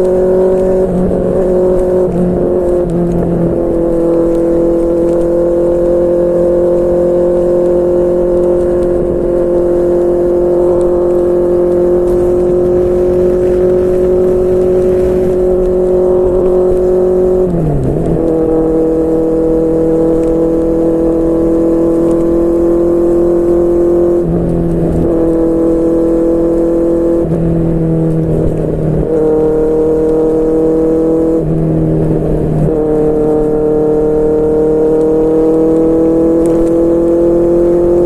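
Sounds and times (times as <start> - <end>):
motorcycle engine shifting gears: 0.0 - 38.0.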